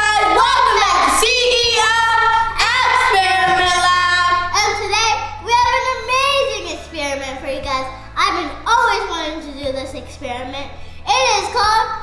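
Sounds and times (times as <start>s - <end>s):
bass accompaniment: 0.0s - 12.0s
child singing: 0.0s - 12.0s.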